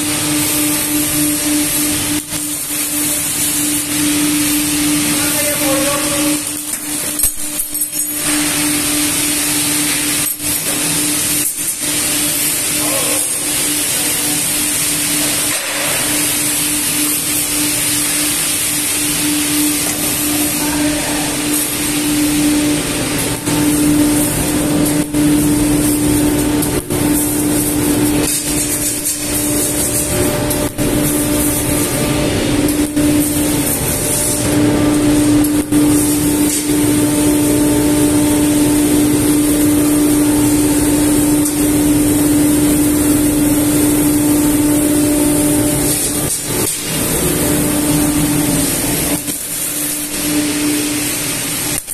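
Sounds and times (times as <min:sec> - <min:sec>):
machinery hum: 0:00.0 - 0:51.9.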